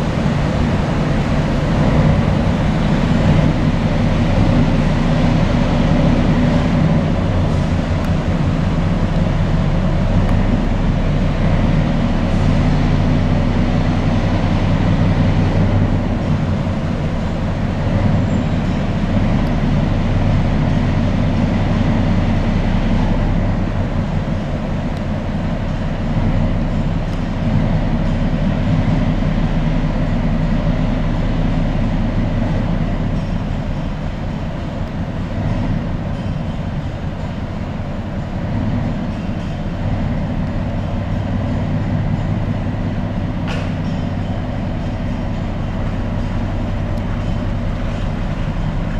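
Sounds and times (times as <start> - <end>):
rumbling in tunnel: 0.0 - 48.9
train engine humming: 0.0 - 48.9.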